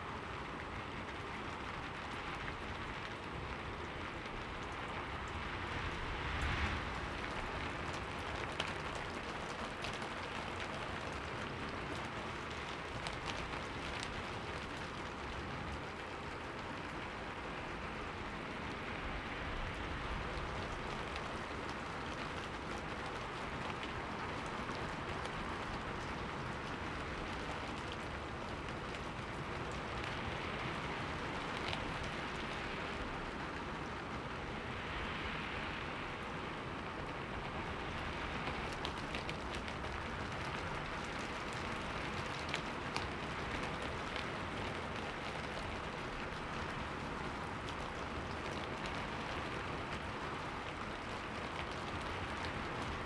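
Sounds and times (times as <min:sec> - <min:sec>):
rain on a window: 0:00.0 - 0:53.0.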